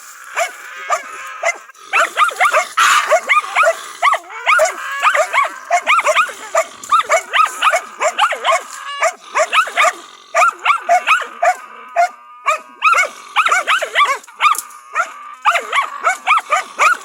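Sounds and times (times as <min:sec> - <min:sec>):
hunting dogs barking rapidly: 0:00.0 - 0:17.0.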